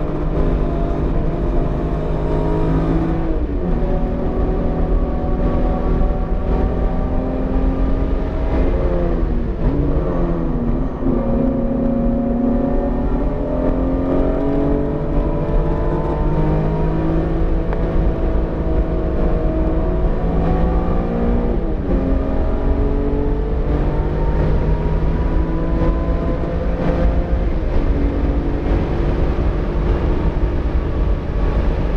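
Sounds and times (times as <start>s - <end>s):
car engine revving under load: 0.0s - 31.9s.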